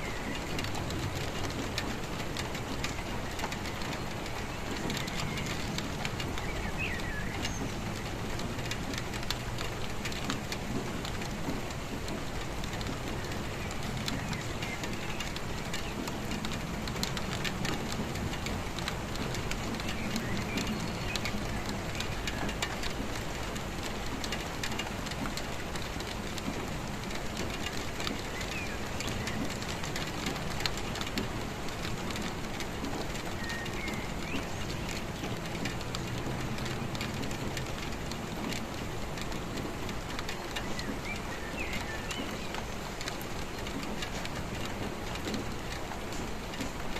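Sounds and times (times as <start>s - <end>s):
raindrops ticking on a surface: 0.0s - 46.9s
steady rain falling: 0.0s - 46.9s.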